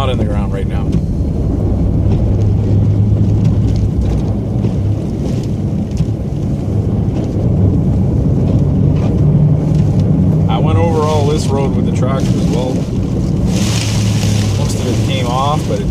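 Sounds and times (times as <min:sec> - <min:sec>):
road noise: 0:00.0 - 0:15.9
truck engine droning: 0:00.0 - 0:15.9.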